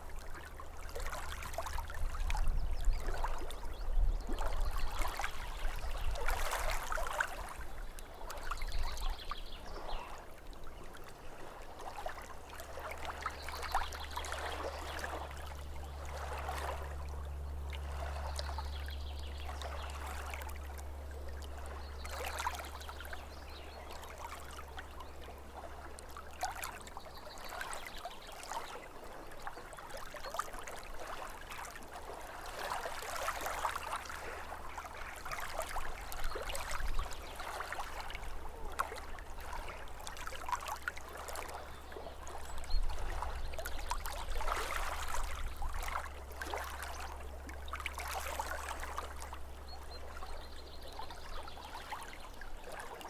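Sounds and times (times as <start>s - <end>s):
low steady rumble: 0.0s - 53.0s
small waves lapping: 0.0s - 53.0s.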